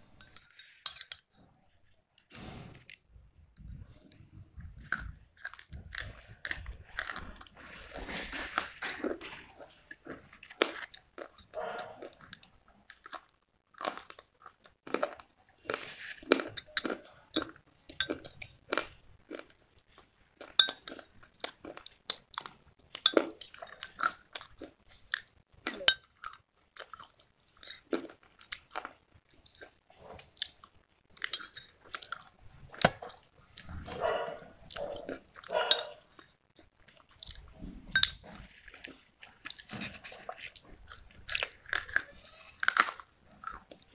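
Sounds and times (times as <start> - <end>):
chewing brittle crunches: 4.6 - 43.9
grinding chews: 4.6 - 43.9.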